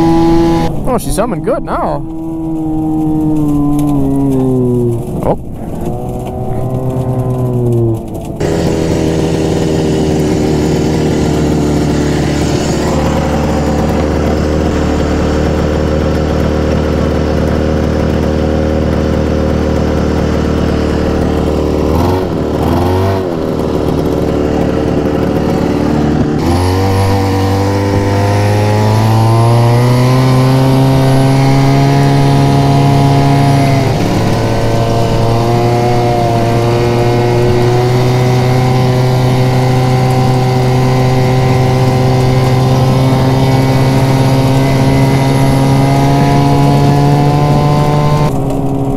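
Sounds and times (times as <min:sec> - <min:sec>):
snowmobile engine running: 0:00.0 - 0:48.9.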